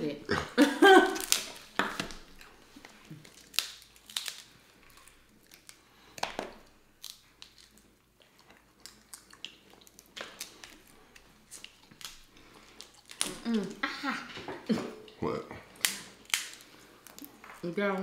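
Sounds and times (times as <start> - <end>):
crab shells cracking: 1.1 - 13.8, 15.8 - 17.6
chewing: 1.2 - 17.6.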